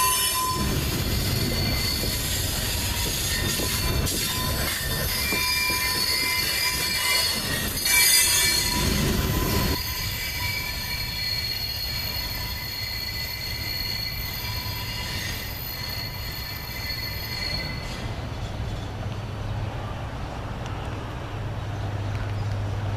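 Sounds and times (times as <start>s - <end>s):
train wheels squealing: 0.0s - 19.1s
low train rumble: 0.0s - 22.9s.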